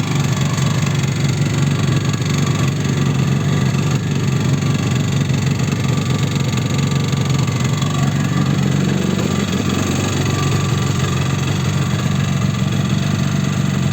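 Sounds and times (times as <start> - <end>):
two-stroke engine running: 0.0 - 13.9.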